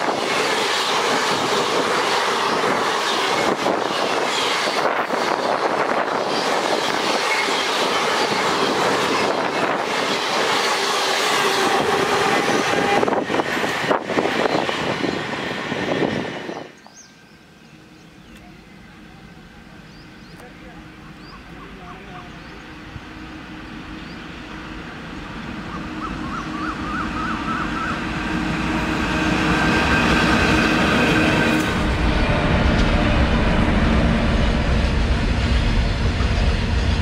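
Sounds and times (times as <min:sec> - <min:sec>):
train rushing past: 0:00.0 - 0:37.0.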